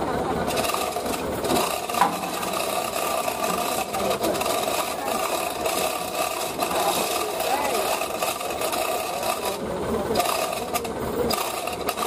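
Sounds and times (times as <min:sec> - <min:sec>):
engine idling: 0:00.0 - 0:12.0
scraping and rattling on metal: 0:00.4 - 0:12.0.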